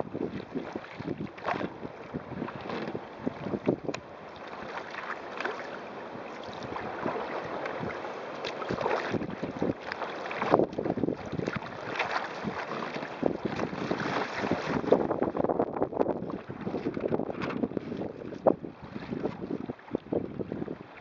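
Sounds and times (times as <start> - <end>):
wind buffeting microphone: 0.0 - 4.1, 6.5 - 21.0
water splashing along hull: 0.0 - 21.0.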